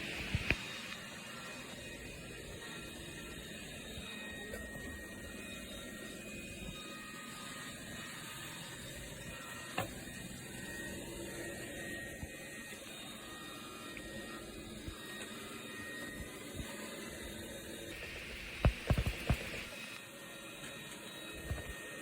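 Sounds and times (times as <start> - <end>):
small machine whirring and rattling: 0.0 - 22.0.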